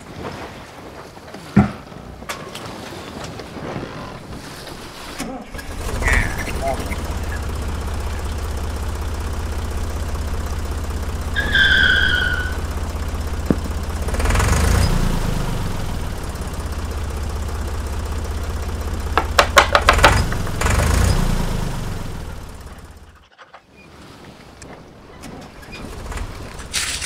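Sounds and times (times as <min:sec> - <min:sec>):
vehicle engine humming: 0:01.2 - 0:27.0.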